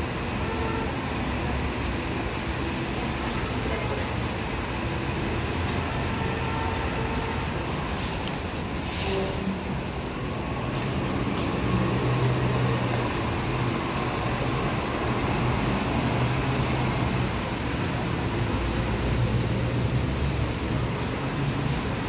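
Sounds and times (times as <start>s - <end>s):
subway train rumble and hum: 0.0s - 22.0s.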